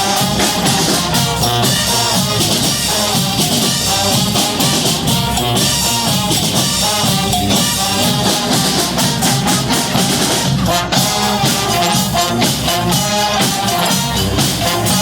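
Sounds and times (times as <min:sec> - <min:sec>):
brass horns playing: 0:00.0 - 0:15.0
drums and cymbals beat: 0:00.0 - 0:15.0.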